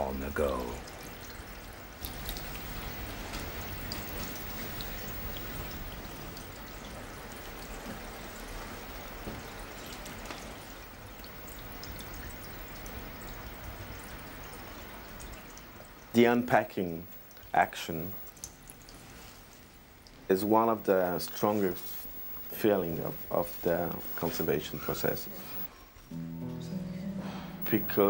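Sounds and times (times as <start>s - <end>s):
faint drips and taps: 0.0s - 25.7s
running water rinsing cloth: 0.0s - 25.7s.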